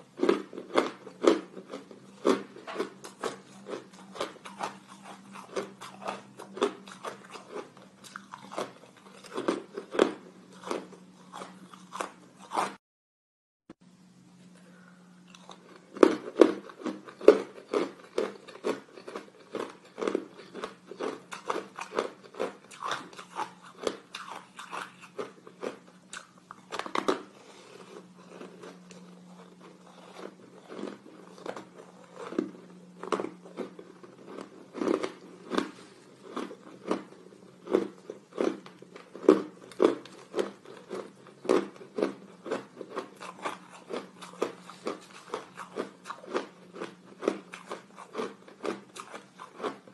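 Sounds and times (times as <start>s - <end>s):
faint low hum: 0.0s - 12.8s, 13.8s - 49.9s.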